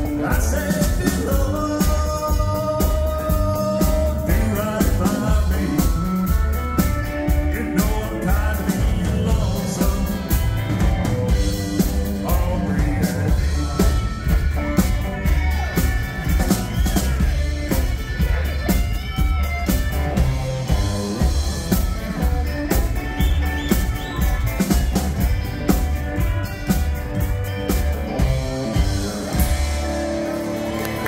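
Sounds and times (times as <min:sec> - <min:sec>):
drum kit beat: 0:00.0 - 0:31.0
electric lead guitar: 0:00.0 - 0:31.0
pedal steel guitar: 0:00.0 - 0:31.0
upright bass: 0:00.0 - 0:31.0.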